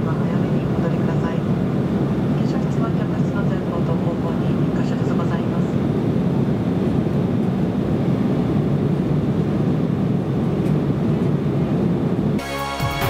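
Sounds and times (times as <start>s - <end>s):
airflow around fuselage: 0.0s - 12.4s
airliner cabin engine drone: 0.0s - 12.5s.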